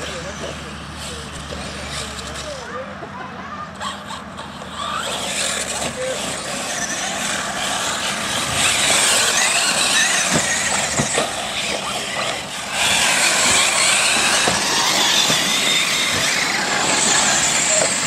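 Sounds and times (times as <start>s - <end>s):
toy car motor whine: 0.0s - 2.9s, 3.5s - 18.0s
tyres rasping on loose dirt: 0.0s - 18.0s.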